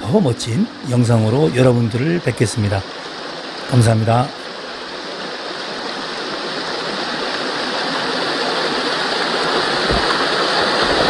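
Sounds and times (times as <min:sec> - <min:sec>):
stream water rushing over rocks: 0:00.0 - 0:11.0.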